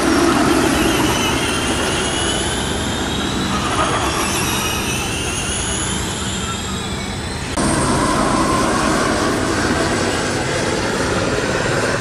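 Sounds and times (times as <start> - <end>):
electric race car whine: 0.0 - 12.0
trackside noise: 0.0 - 12.0.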